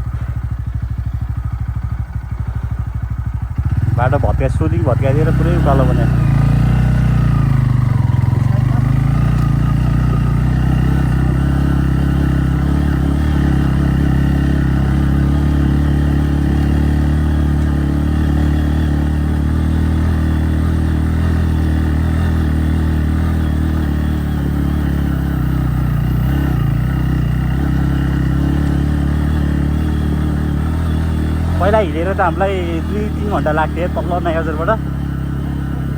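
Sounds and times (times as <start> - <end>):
motorcycle engine under load: 0.0 - 35.9.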